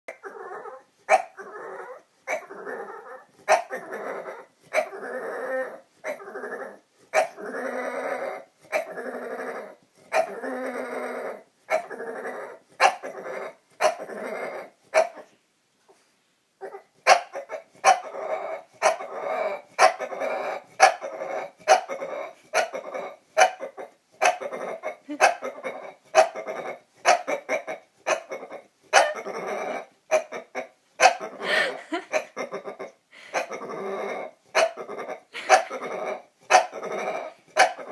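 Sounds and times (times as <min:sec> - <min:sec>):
dog making growling vocal noises: 0:00.1 - 0:14.8, 0:16.6 - 0:37.9.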